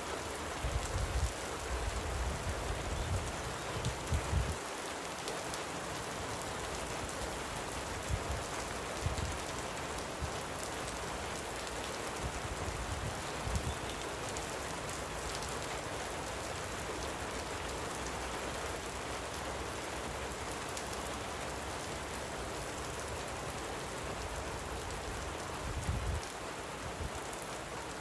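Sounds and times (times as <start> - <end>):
light rain hiss: 0.0 - 28.0.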